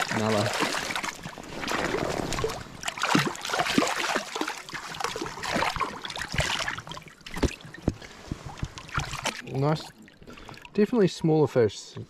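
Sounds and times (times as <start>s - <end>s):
stream water splashing: 0.0s - 11.7s.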